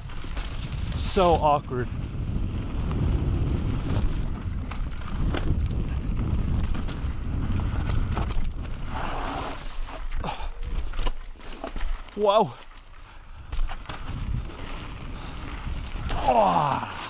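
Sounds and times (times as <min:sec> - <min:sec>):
wind buffeting microphone: 0:00.0 - 0:11.5, 0:12.9 - 0:17.0
bike clicks and rattles: 0:00.0 - 0:17.0
tyres rumbling on dirt: 0:00.0 - 0:17.0.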